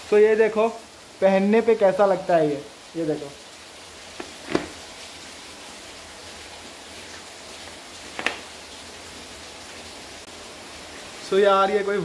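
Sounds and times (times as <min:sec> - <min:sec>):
rain hissing: 0:00.0 - 0:12.0.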